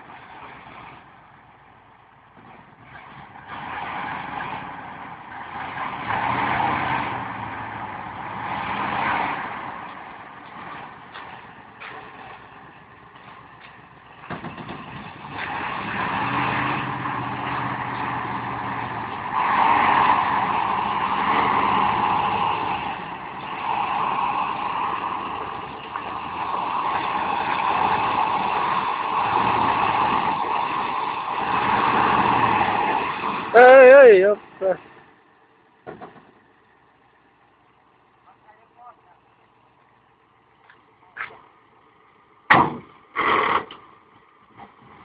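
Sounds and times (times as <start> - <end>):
road noise: 0.0 - 45.0.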